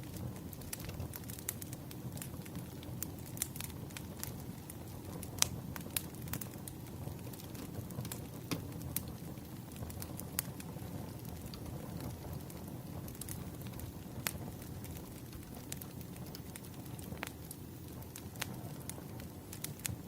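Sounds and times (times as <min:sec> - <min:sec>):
crackling wood fire: 0:00.0 - 0:20.0.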